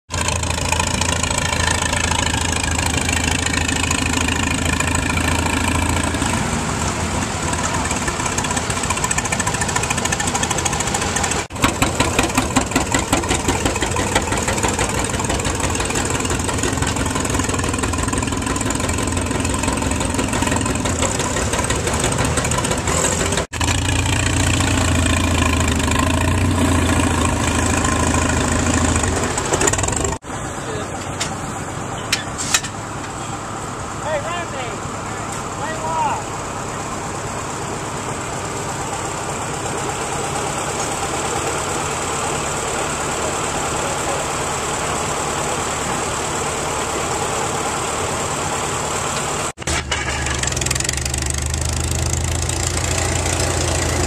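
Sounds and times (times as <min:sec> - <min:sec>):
two-cylinder engine popping exhaust: 0:00.1 - 0:06.5, 0:07.1 - 0:30.3, 0:37.6 - 0:54.0
tractor engine pitch gliding: 0:00.1 - 0:54.0
tractor engine running steadily: 0:00.1 - 0:54.0.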